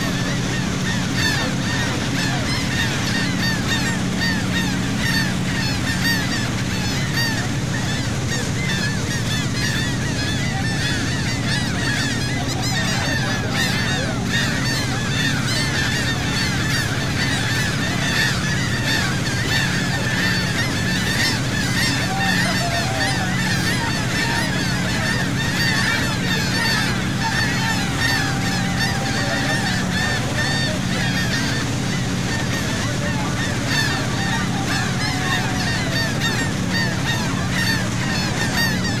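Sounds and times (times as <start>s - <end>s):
boat engine hum: 0.0s - 39.0s
seagulls calling: 0.0s - 39.0s.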